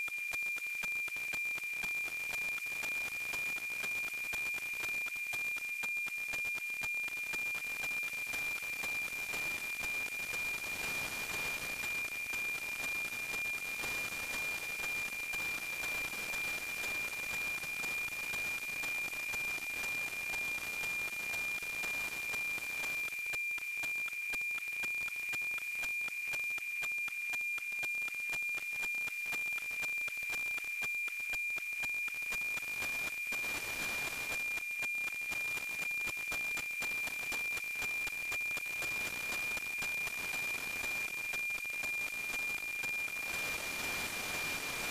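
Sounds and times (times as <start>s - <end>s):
steady high-pitched tone: 0.0s - 44.9s
tick-tock sync pulses: 0.0s - 44.9s.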